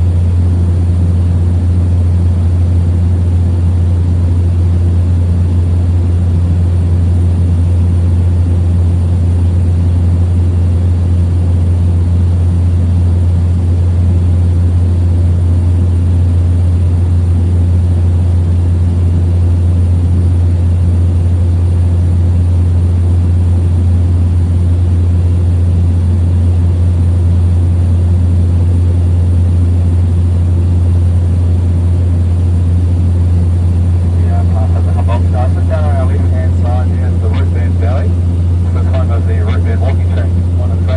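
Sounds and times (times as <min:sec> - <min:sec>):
small plane engine drone: 0:00.0 - 0:40.9.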